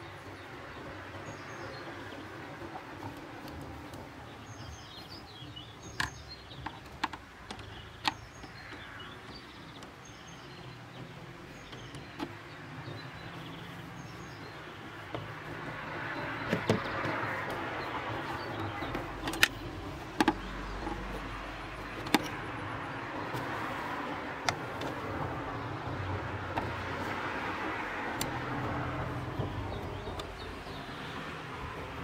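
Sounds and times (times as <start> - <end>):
outdoor background hum: 0.0 - 32.0
small birds chirping: 0.0 - 32.0
clicks and taps of car parts: 0.5 - 32.0.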